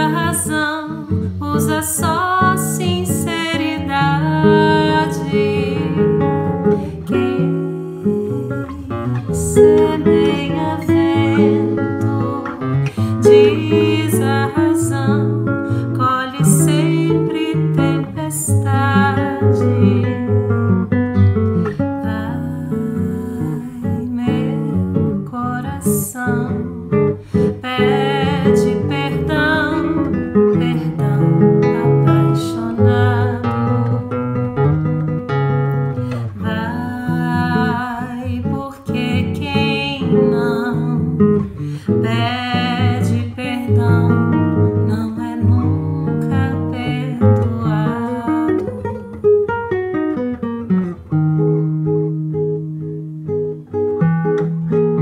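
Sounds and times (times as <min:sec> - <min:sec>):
woman singing a ballad: 0:00.0 - 0:34.4, 0:36.0 - 0:49.7
fingerpicked nylon-string guitar: 0:00.0 - 0:55.0.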